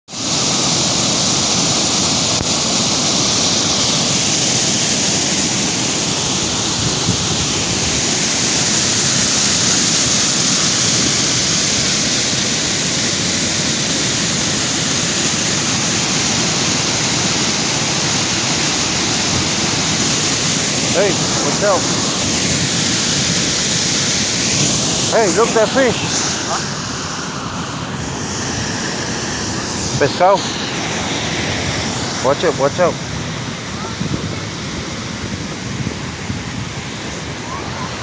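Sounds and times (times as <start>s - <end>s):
waterfall rushing: 0.1s - 38.0s.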